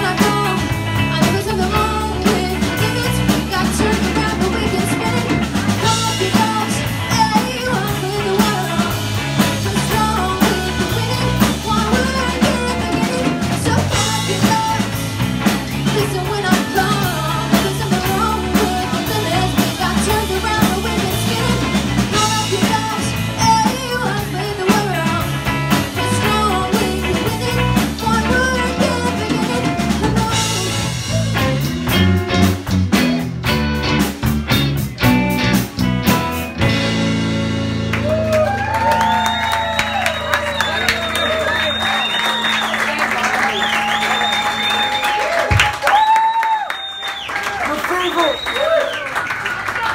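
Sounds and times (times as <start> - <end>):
drum kit steady beat: 0.0 - 46.1
electric guitars: 0.0 - 47.6.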